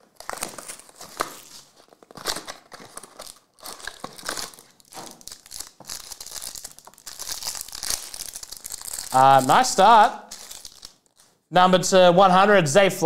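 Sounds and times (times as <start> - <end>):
plastic wrapper crinkling and tearing: 0.0 - 11.4.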